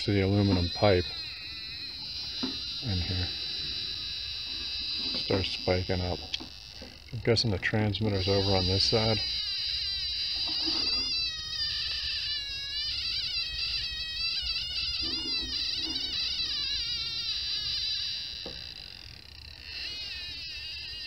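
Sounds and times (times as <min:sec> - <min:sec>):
electronic meter warble: 0:00.0 - 0:21.0.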